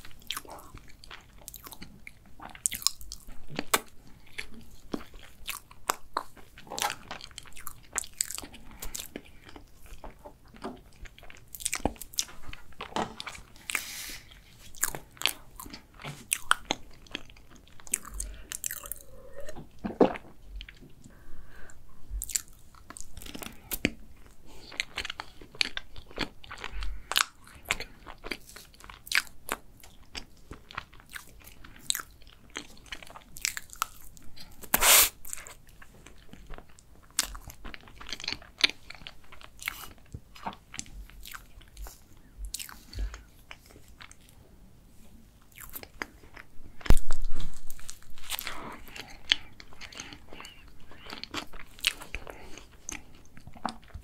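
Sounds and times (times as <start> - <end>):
close chewing and mouth sounds: 0.0 - 54.0.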